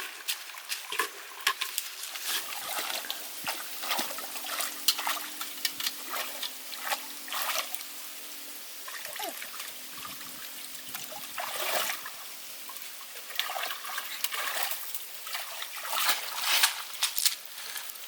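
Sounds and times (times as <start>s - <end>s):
water splashing and sloshing: 0.0s - 18.0s
faint steady hum: 2.1s - 16.9s.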